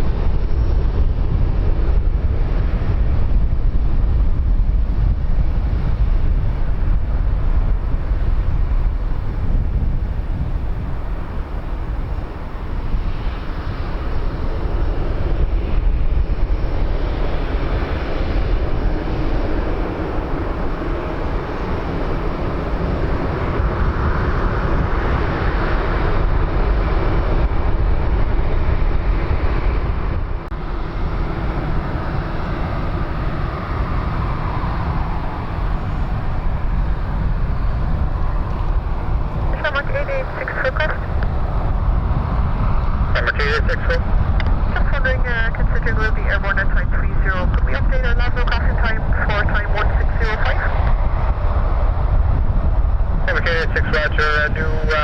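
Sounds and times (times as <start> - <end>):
aircraft engines running: 0.0 - 55.0
wind rumble on microphone: 0.0 - 55.0.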